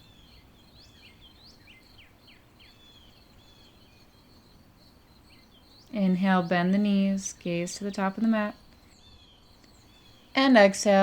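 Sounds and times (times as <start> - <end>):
faint birds chirping: 0.0 - 11.0
low background hiss: 0.0 - 11.0.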